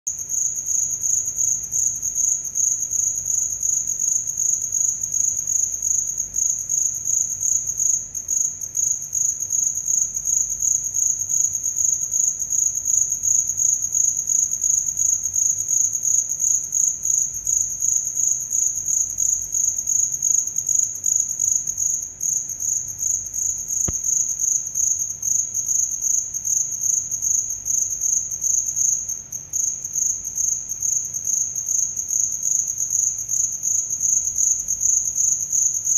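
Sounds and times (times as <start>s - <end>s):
cricket trilling: 0.1s - 35.9s.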